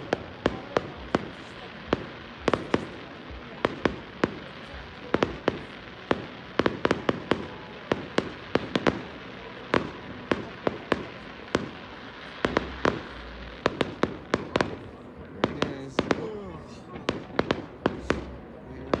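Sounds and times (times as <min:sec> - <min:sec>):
fireworks bangs: 0:00.0 - 0:19.0
fireworks crackling hiss: 0:00.0 - 0:19.0.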